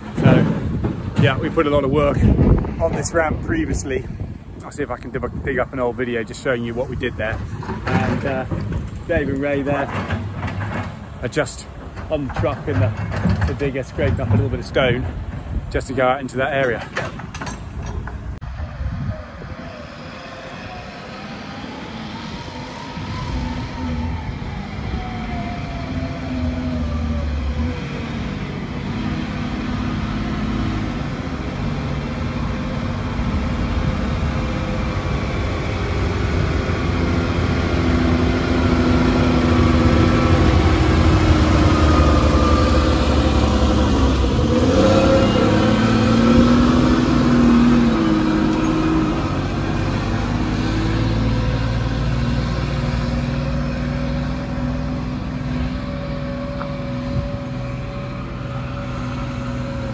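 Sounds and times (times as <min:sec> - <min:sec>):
dump truck diesel engine: 0:00.0 - 0:59.9.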